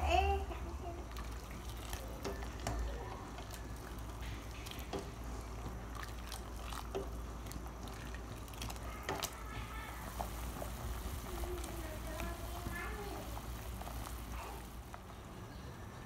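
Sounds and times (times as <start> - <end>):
soup sloshing: 0.6 - 15.4.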